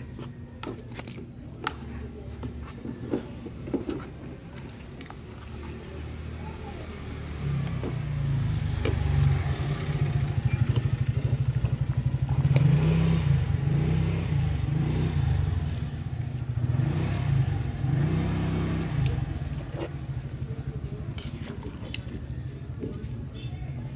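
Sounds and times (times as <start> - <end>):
engine pulsing rumble: 0.0 - 23.3.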